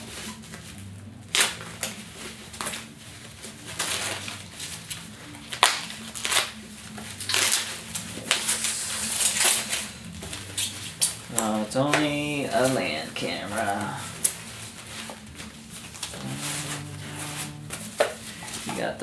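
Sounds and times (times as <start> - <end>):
plastic wrap rustling and crinkling: 0.0 - 19.0.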